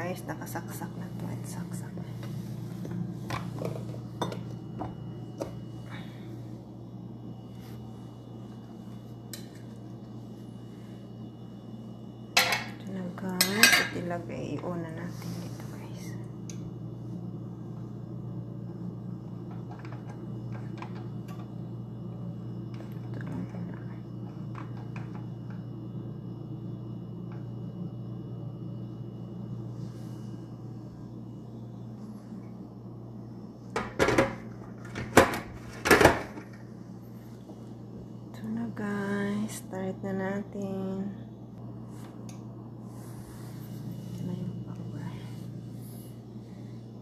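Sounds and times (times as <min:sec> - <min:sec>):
low hum: 0:00.0 - 0:47.0.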